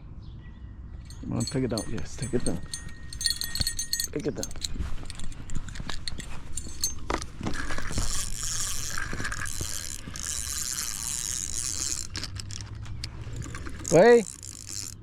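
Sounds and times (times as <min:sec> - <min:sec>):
fishing reel clicks: 0:01.1 - 0:15.0
fishing reel whirring: 0:01.1 - 0:15.0.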